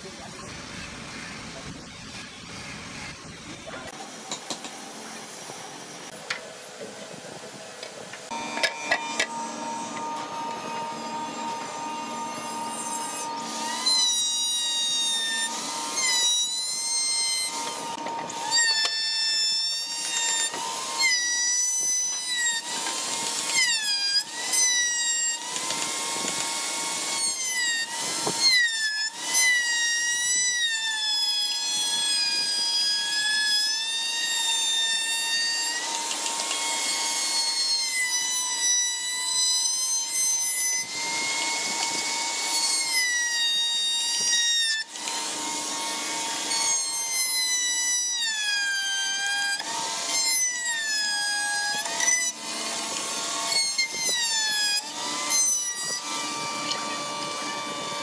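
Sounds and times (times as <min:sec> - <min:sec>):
router cutting wood: 0:00.0 - 0:58.0.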